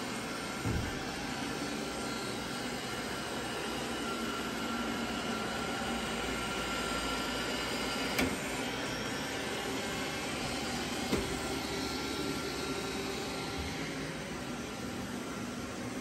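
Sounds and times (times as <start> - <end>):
robot vacuums whirring: 0.0 - 16.0.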